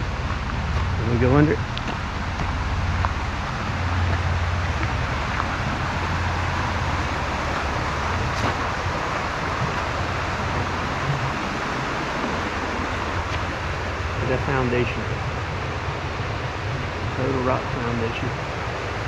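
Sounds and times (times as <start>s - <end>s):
flowing water: 0.0s - 19.0s
low rumble: 0.0s - 19.0s.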